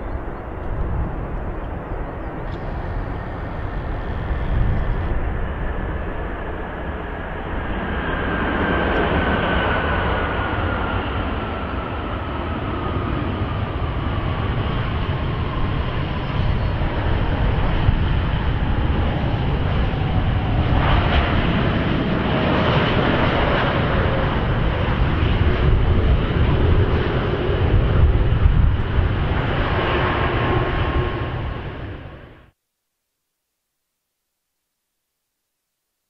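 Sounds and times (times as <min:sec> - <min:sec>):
jet airliner engine rush: 0:00.0 - 0:32.5
jet engine whine falling in pitch: 0:00.0 - 0:32.5.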